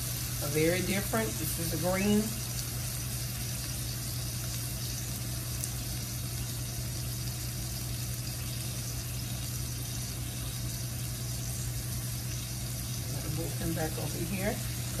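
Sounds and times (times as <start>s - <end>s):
meat sizzling on a griddle: 0.0s - 15.0s.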